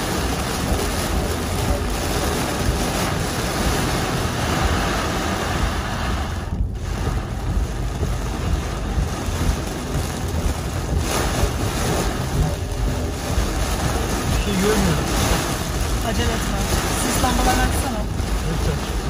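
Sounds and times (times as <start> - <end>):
deep thunder rumble: 0.0 - 19.0
heavy rain on a car: 0.0 - 19.0.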